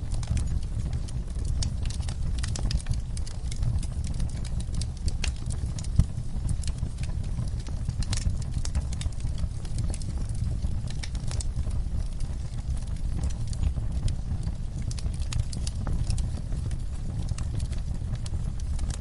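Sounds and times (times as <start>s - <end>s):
campfire crackling and popping: 0.0s - 19.0s
low steady rumble: 0.0s - 19.0s.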